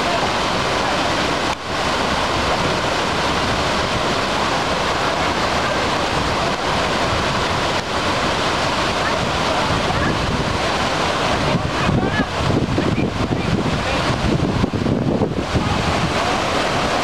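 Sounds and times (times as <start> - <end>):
water pouring over rock cascade: 0.0 - 17.0.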